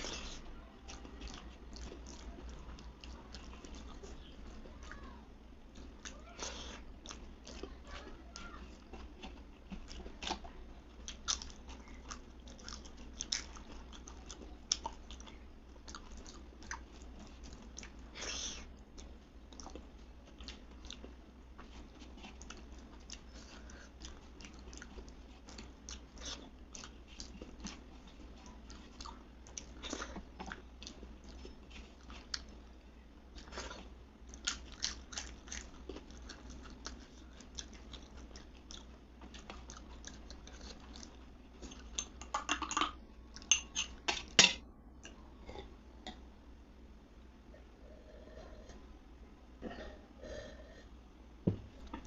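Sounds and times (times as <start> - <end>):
person chewing and smacking: 0.0 - 44.4.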